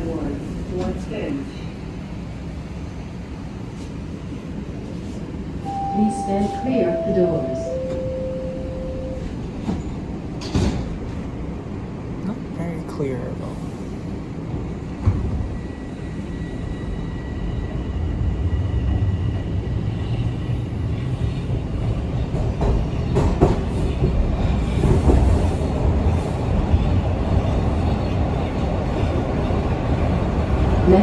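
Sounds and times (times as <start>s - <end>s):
train wheels rumbling on rail: 0.0s - 8.1s, 9.2s - 31.0s.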